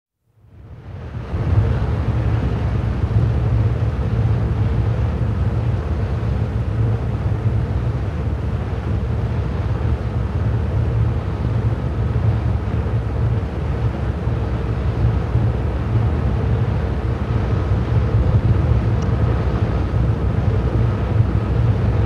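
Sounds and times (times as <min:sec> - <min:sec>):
faint steady hum: 0:00.2 - 0:22.0
wind rushing over the sea: 0:00.4 - 0:22.0.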